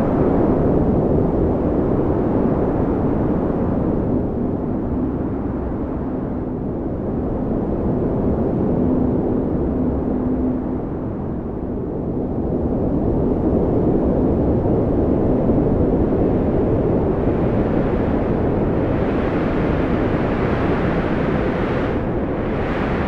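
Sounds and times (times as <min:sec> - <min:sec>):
strong wind blowing: 0:00.0 - 0:23.0.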